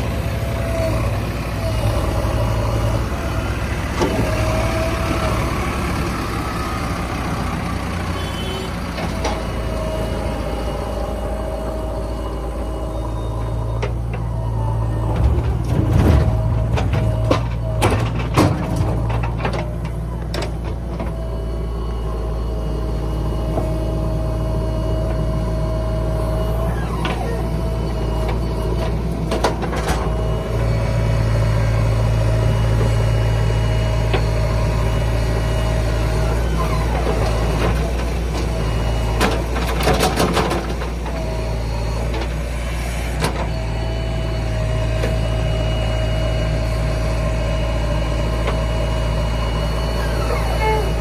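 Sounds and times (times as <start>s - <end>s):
constant whine: 0.0s - 51.0s
tractor engine running: 0.0s - 51.0s.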